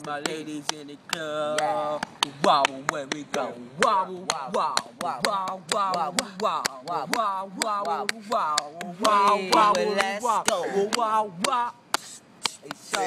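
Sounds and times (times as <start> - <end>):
vocal music over a beat: 0.0 - 13.0.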